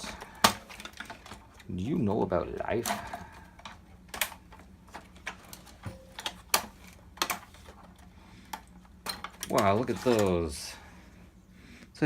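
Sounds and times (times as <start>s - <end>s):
plastic parts clicking: 0.0s - 10.5s.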